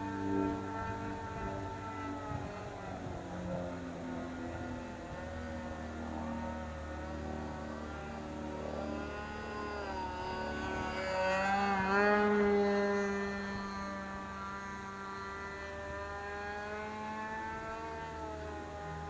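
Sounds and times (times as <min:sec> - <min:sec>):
model airplane engine and propeller: 0:00.0 - 0:19.0.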